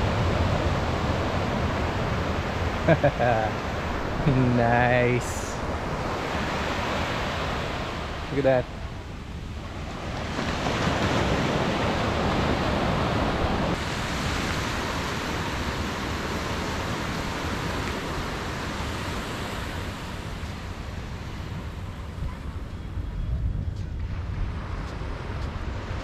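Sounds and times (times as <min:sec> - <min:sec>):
waves breaking on sandy beach: 0:00.0 - 0:23.2, 0:24.0 - 0:26.0.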